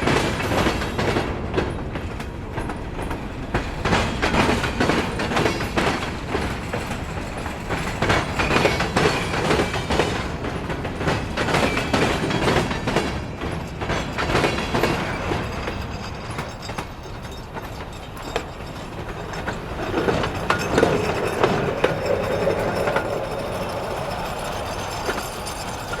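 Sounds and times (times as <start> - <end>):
railroad cars rumbling: 0.0 - 26.0
railroad wheels clacking over joints: 0.0 - 26.0.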